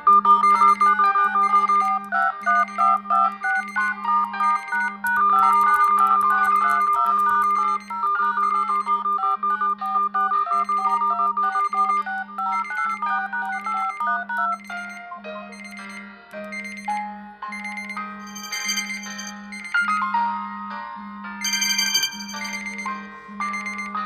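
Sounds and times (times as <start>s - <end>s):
electronic ringtone melody: 0.1s - 20.4s, 21.4s - 24.0s.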